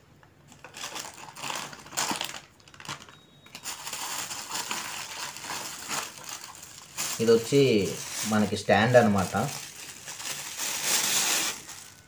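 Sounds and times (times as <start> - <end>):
plastic wrap crinkling: 0.5 - 12.0.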